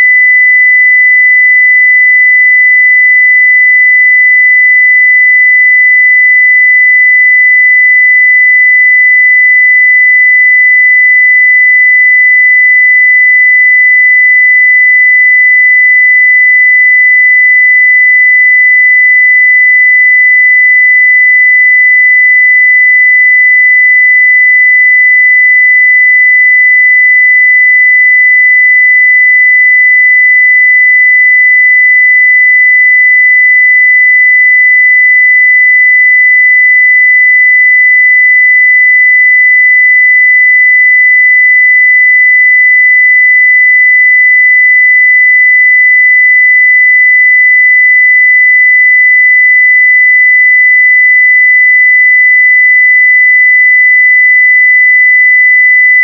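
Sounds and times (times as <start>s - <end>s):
sine-wave test tone: 0.0s - 56.0s.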